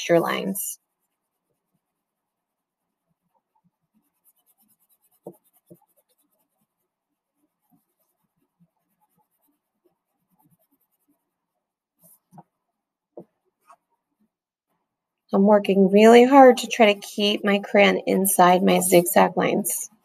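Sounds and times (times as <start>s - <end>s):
crayon scratching on paper: 0.0s - 12.5s, 16.0s - 20.0s.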